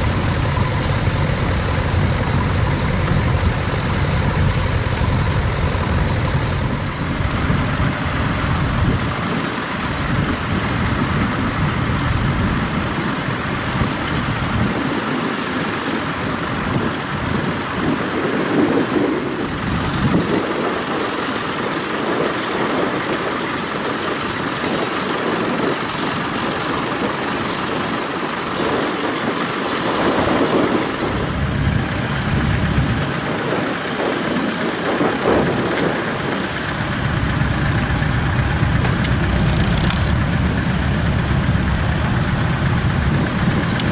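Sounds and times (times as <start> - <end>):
tractor engine rumbling: 0.0 - 43.9.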